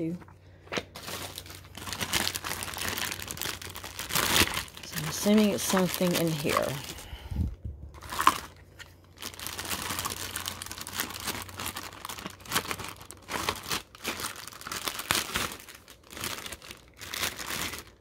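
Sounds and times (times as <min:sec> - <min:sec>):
plastic bags crinkling: 0:00.7 - 0:07.2, 0:07.9 - 0:18.0.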